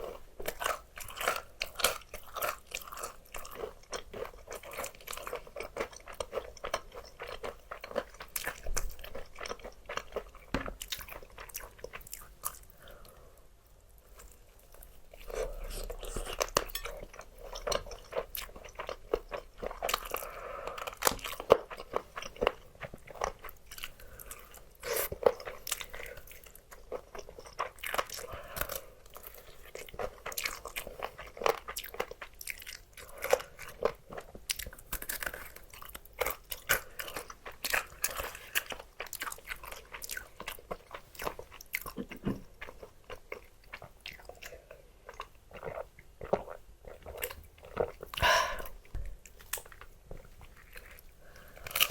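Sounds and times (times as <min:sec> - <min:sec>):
chewing crispy fried chicken: 0:00.0 - 0:51.9.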